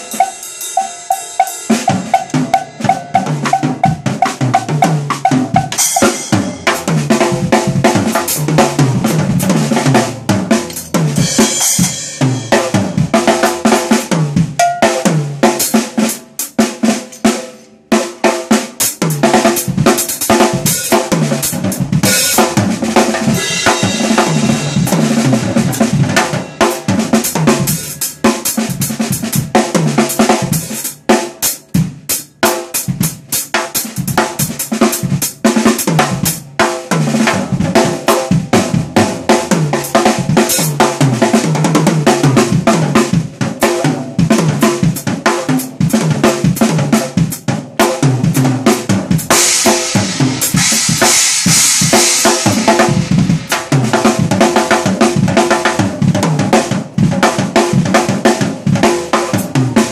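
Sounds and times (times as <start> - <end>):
drum kit solo: 0.0 - 59.9.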